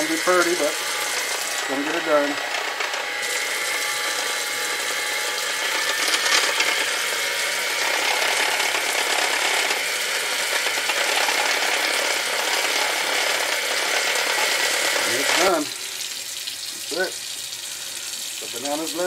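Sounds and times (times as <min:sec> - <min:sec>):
hand mixer whirring in bowl: 0:00.0 - 0:19.0.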